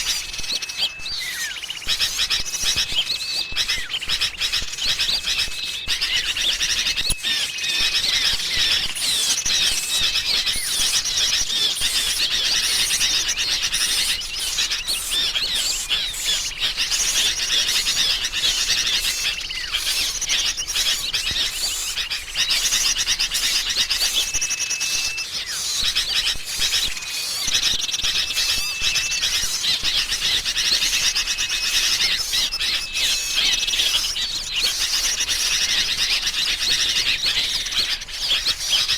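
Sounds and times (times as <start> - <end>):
bulbuls calling noisily: 0.0 - 38.9
songbirds chirping: 0.0 - 38.9.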